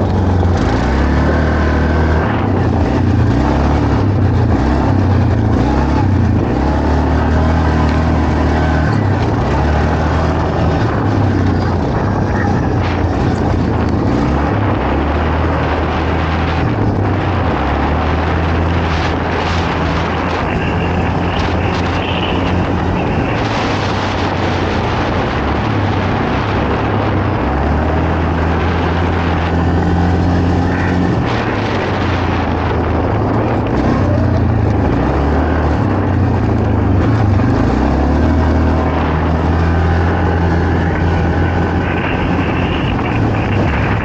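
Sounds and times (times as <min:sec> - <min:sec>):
quad bike engine revving: 0:00.0 - 0:44.0
rushing noise: 0:00.0 - 0:44.0.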